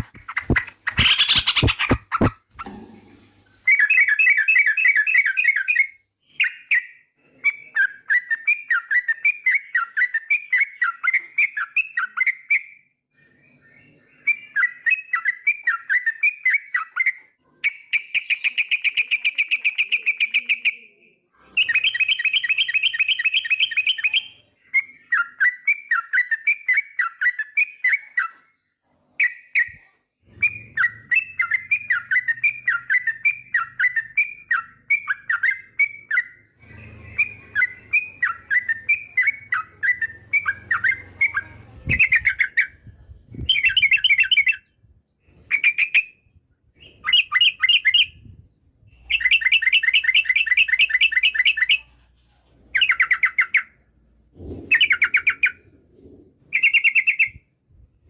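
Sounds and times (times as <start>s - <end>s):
bird chattering song: 0.0s - 2.8s, 3.6s - 12.8s, 13.5s - 28.4s, 29.2s - 46.2s, 46.8s - 52.1s, 52.7s - 57.5s.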